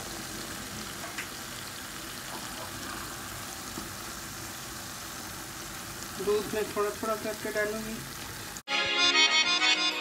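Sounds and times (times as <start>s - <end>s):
curry sizzling in a pot: 0.0s - 8.7s.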